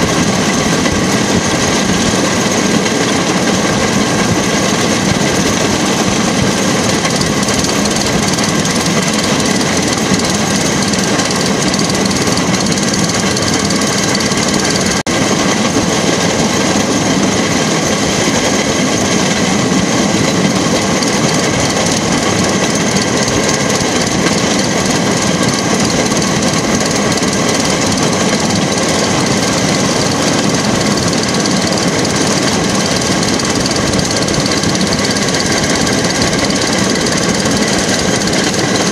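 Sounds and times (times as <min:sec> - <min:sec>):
small engine chattering: 0:00.0 - 0:38.9
wheels running on rails: 0:00.0 - 0:38.9.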